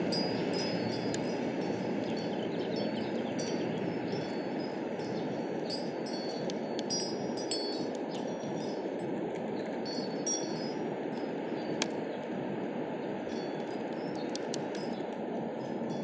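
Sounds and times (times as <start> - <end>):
high metallic tinkling: 0.0 - 9.2, 9.8 - 11.7, 13.2 - 16.0
wind blowing: 0.0 - 16.0.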